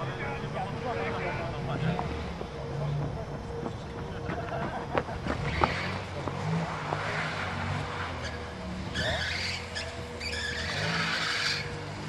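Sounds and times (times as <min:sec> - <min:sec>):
car engine pulling hard: 0:00.0 - 0:12.0.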